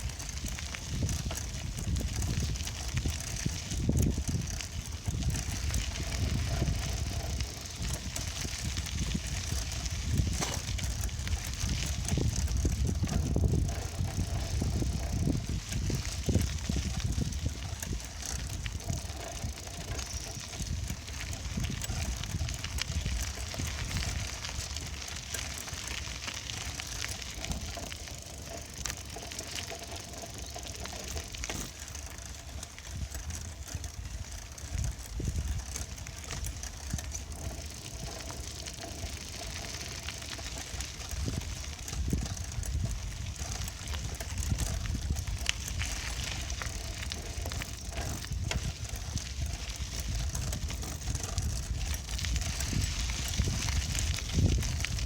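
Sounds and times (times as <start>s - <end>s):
bicycle tyres hissing: 0.0s - 55.0s
small rattles and clicks: 0.0s - 55.0s
wind buffeting microphone: 0.0s - 55.0s.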